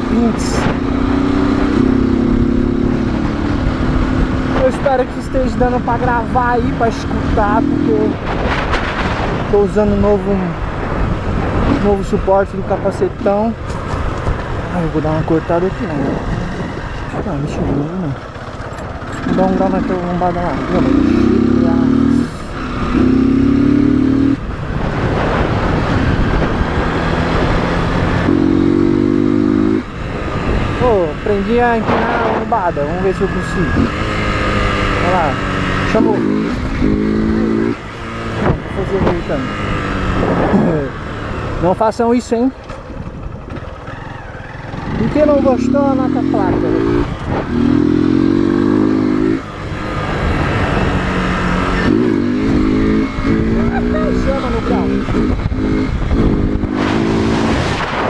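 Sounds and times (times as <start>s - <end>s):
motorcycle engine at high revs: 0.0s - 58.0s
wind and road noise: 0.0s - 58.0s.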